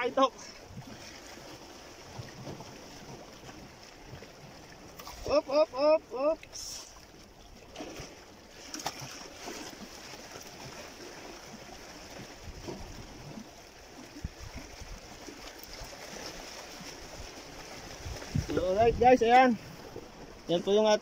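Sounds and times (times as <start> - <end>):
waves splashing against rocks: 0.0 - 21.0.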